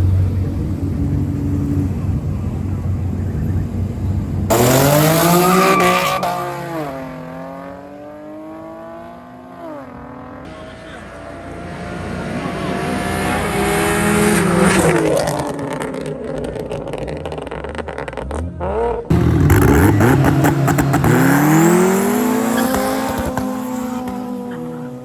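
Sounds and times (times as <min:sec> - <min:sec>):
loud engine climbing: 0:00.0 - 0:09.4, 0:10.0 - 0:25.0
car engines revving: 0:00.0 - 0:25.0.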